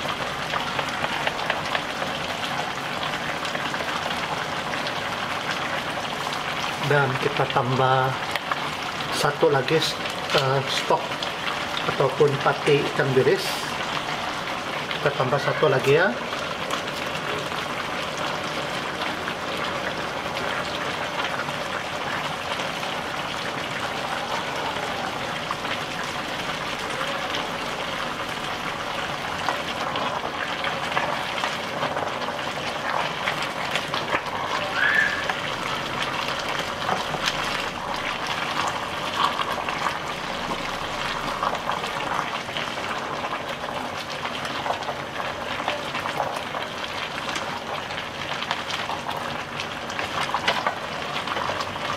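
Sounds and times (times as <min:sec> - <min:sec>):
pot bubbling: 0:00.0 - 0:51.9.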